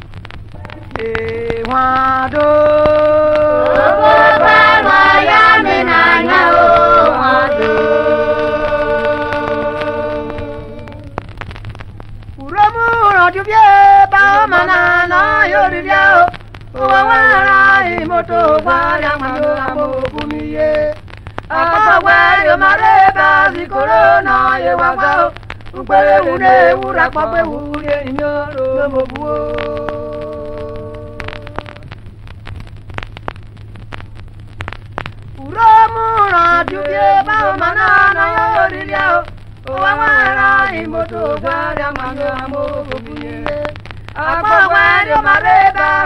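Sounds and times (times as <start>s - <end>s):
steady low hum: 0.0s - 46.0s
person singing: 0.6s - 11.2s, 12.4s - 31.9s, 35.4s - 46.0s.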